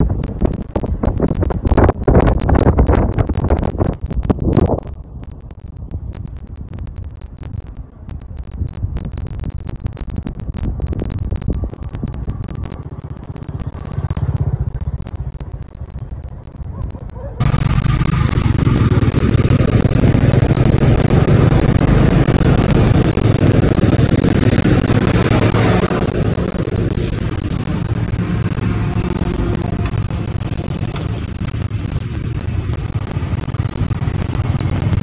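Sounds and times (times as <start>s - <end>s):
motorcycle engine riding: 0.0s - 35.0s
wind gusting on microphone: 0.0s - 35.0s.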